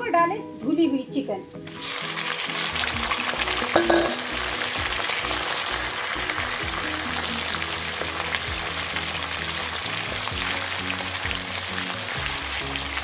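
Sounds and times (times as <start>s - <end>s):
background music with low notes: 0.0s - 13.0s
chicken sizzling in hot oil: 1.7s - 13.0s.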